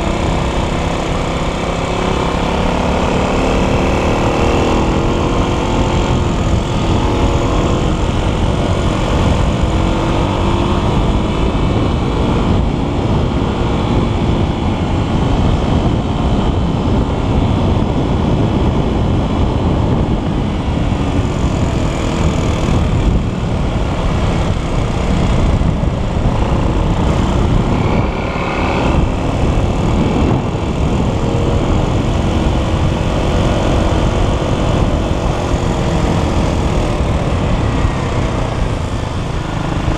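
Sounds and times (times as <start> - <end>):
heavy low rumble: 0.0 - 39.9
motocross bike engine: 0.0 - 39.9.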